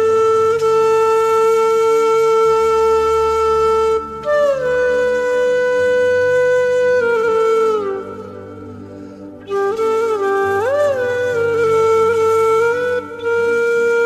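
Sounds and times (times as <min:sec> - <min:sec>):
wind instrument long notes: 0:00.0 - 0:14.0.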